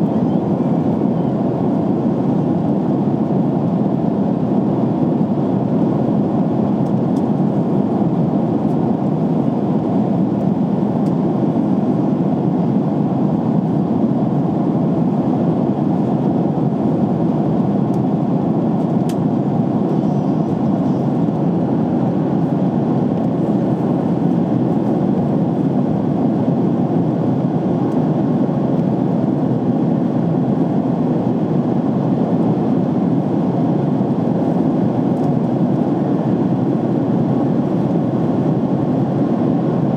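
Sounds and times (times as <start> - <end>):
airliner cabin jet engine roar: 0.0 - 39.9.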